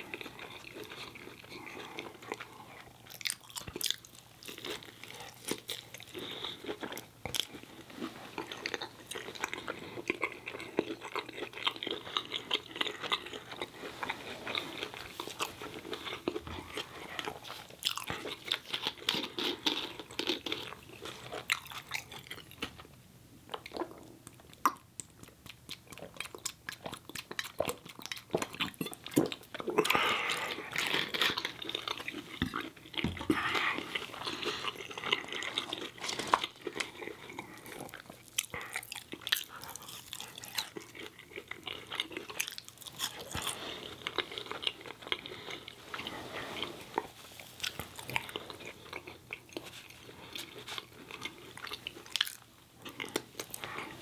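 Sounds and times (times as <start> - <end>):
person chewing: 0.0 - 22.9, 23.5 - 54.0.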